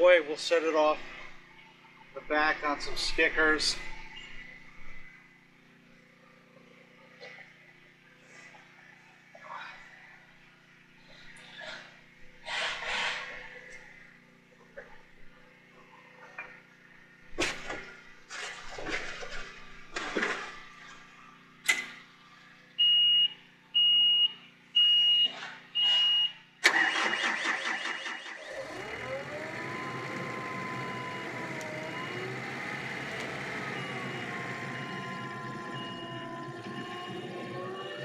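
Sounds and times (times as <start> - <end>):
engine cranking and running: 0.0 - 22.1, 26.6 - 38.0.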